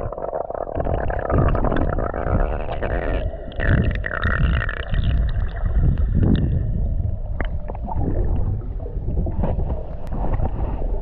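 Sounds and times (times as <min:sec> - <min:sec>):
muffled underwater rumble and gurgling: 0:00.0 - 0:11.0.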